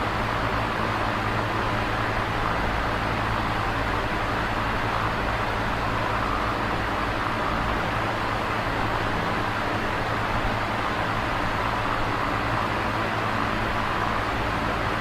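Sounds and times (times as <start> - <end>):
box fan running: 0.0 - 15.0.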